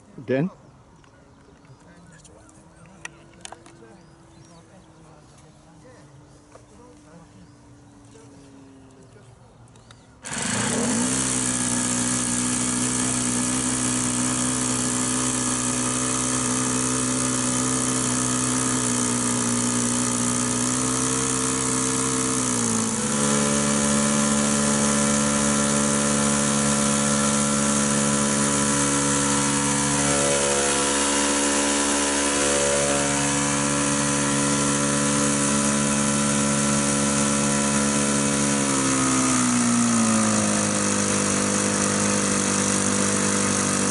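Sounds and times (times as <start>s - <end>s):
model aircraft engine running: 1.9s - 43.9s.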